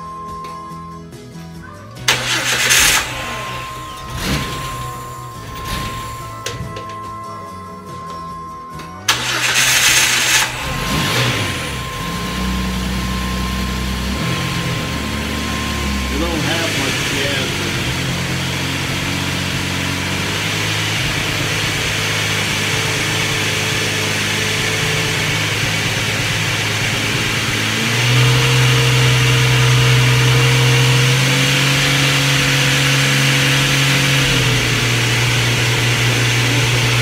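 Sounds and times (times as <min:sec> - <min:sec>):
car engine idling and revving: 0:01.5 - 0:37.0.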